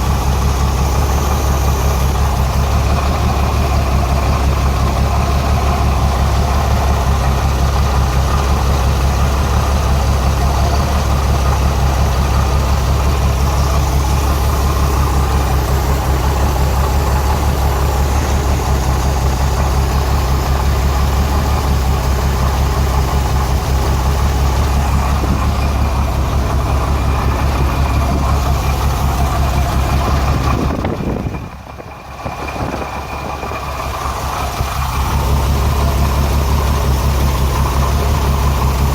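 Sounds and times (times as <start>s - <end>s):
engine idling roughly with misfire: 0.0s - 38.9s.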